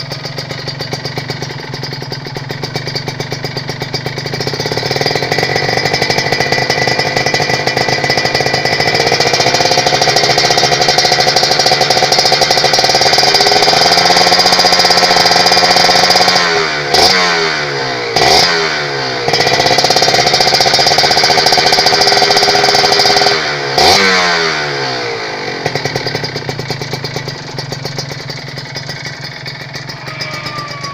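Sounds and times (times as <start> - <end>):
two-stroke motorcycle engine revving: 0.0 - 30.9.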